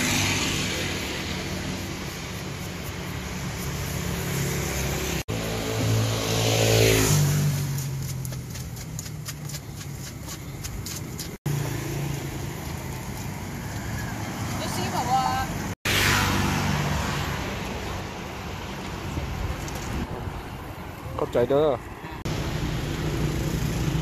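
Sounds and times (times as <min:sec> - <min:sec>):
street traffic passing: 0:00.0 - 0:24.0.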